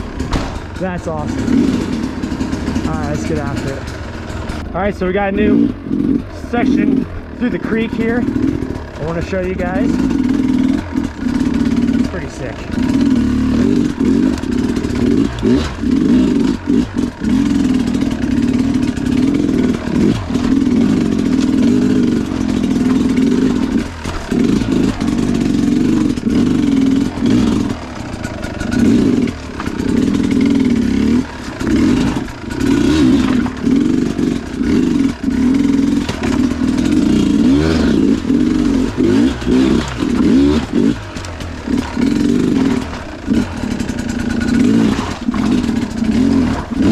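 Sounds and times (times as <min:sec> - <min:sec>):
clatter: 0:00.0 - 0:46.9
dirt bike engine revving: 0:00.0 - 0:46.9.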